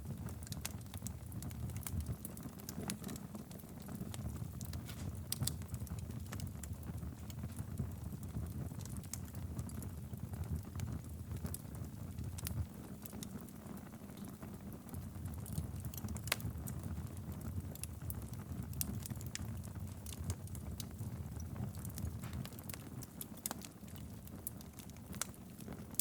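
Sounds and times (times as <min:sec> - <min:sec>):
fire crackles and pops: 0:00.0 - 0:26.0
fire flames rumbling: 0:00.0 - 0:26.0.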